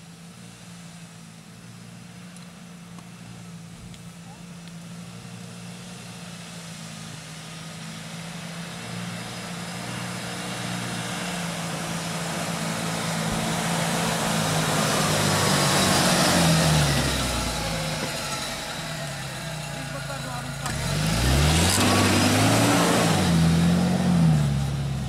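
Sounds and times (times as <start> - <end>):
car engine pulling uphill: 0.0 - 25.0.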